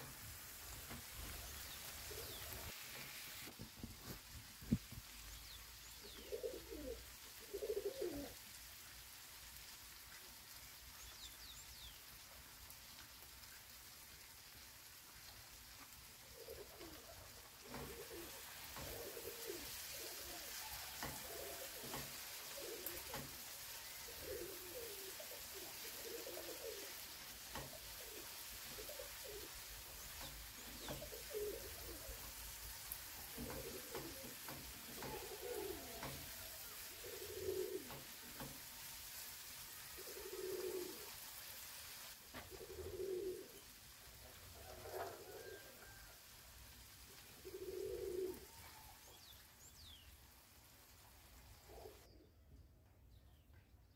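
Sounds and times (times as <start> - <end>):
sauce sizzling in a frying pan: 0.0 - 52.0.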